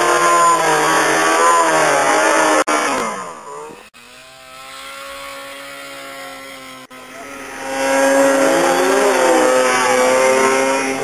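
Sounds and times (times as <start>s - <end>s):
snowmobile engine revving: 0.0s - 11.0s.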